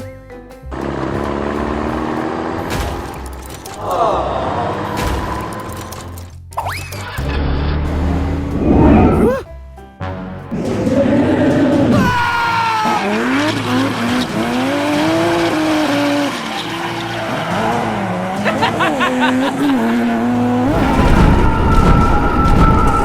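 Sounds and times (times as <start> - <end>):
car engine revving: 0.7 - 6.3, 7.1 - 9.4, 10.5 - 12.1, 12.9 - 23.0.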